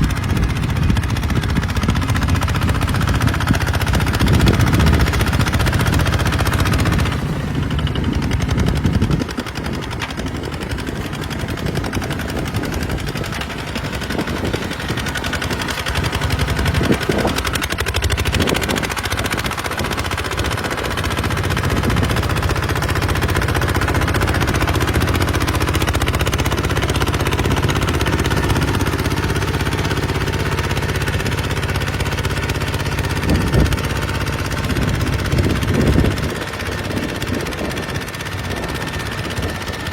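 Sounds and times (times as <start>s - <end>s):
diesel bulldozer engine under load: 0.0s - 39.9s.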